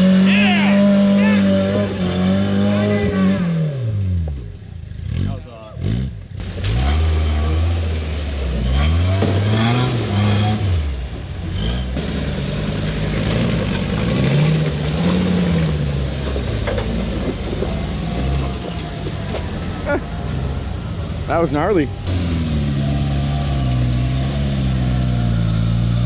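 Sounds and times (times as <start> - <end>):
engine revving up and down: 0.0 - 26.0.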